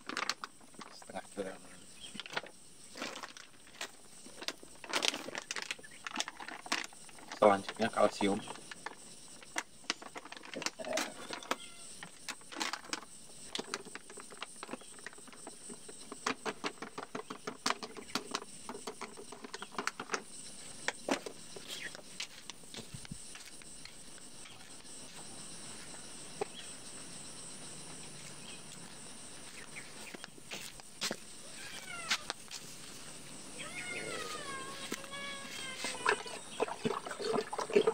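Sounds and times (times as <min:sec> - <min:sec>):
high insect buzz: 0:00.0 - 0:37.9.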